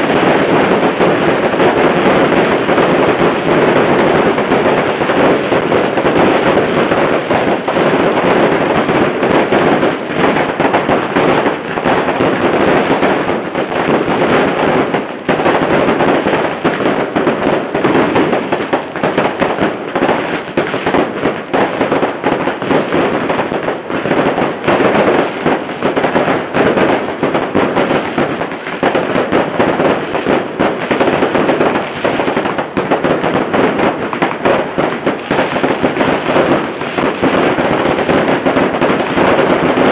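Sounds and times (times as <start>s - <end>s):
fireworks cracking and banging: 0.0s - 39.9s.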